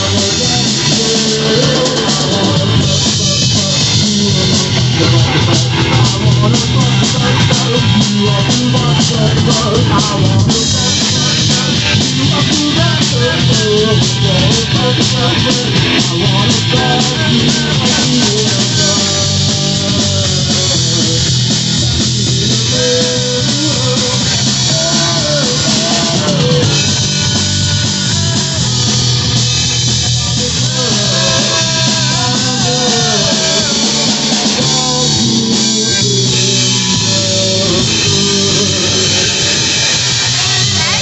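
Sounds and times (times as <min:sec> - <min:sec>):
bass guitar: 0:00.0 - 0:41.0
drum kit: 0:00.0 - 0:41.0
electric guitar: 0:00.0 - 0:41.0.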